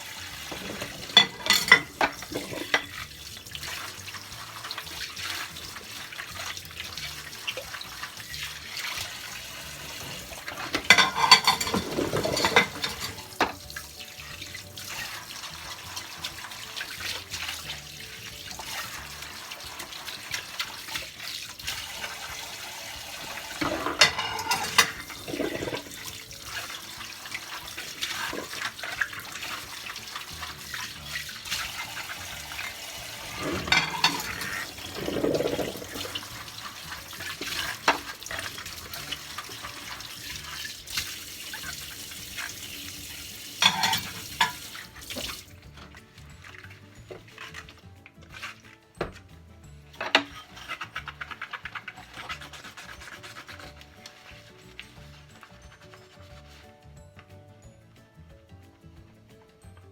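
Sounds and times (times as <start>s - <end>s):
tap water running into sink: 0.0s - 49.3s
dishes splashing and clinking: 0.0s - 56.7s.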